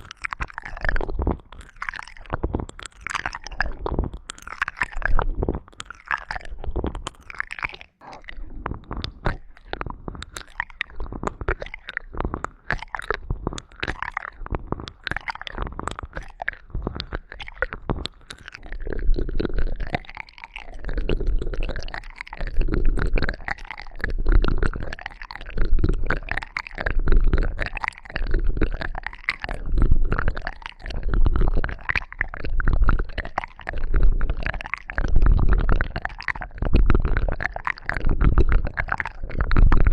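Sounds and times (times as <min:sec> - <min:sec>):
crackling and clicking in ear: 0:00.0 - 0:39.9
rhythmic rubbing on microphone: 0:00.0 - 0:39.9.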